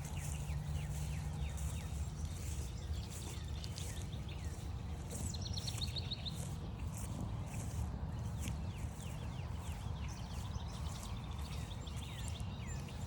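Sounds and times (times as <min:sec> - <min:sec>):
footsteps on a trail: 0:00.0 - 0:13.0
songbirds calling: 0:00.0 - 0:13.0.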